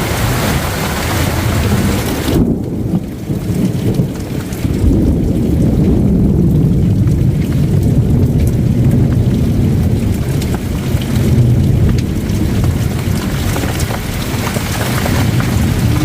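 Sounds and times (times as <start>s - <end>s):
heavy rainstorm deep rumble: 0.0s - 16.0s.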